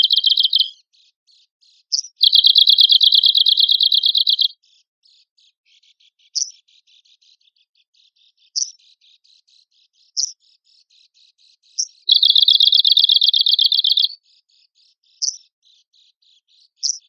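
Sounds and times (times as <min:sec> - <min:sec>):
warbler singing: 0:00.0 - 0:17.0.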